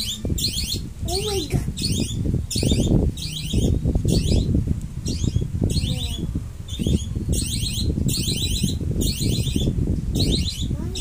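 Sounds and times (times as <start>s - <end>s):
shrill high-pitched chirp: 0.0s - 11.0s.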